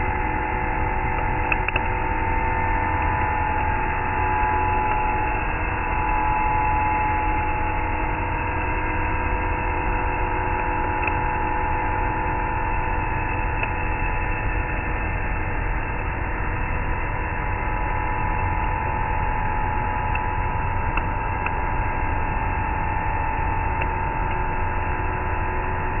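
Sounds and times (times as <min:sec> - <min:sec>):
constant machine noise: 0:00.0 - 0:26.0
milling machine cutting whine: 0:00.0 - 0:26.0.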